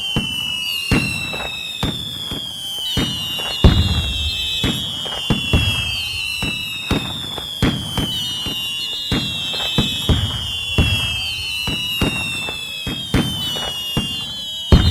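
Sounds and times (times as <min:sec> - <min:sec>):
fireworks bangs and cracks: 0:00.0 - 0:14.9
fireworks whistling: 0:00.0 - 0:14.9.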